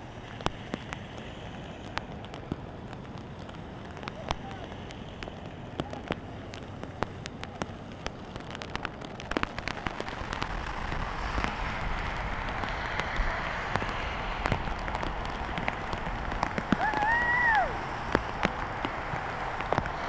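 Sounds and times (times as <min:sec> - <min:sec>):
heavy rain on water: 0:00.0 - 0:20.0
low rumble: 0:00.0 - 0:20.0.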